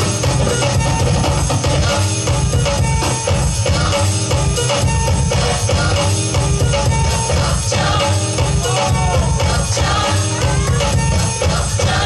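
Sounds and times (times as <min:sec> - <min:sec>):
loud music with drum beat and bass: 0:00.0 - 0:12.0.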